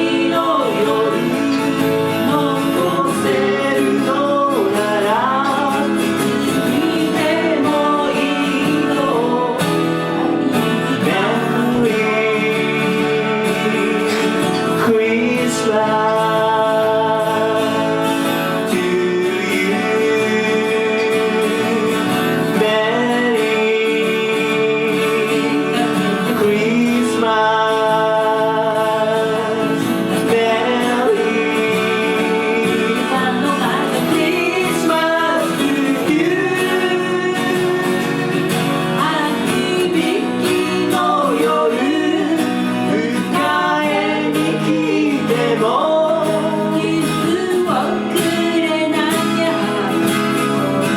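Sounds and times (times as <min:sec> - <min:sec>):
guitar accompaniment: 0:00.0 - 0:50.9.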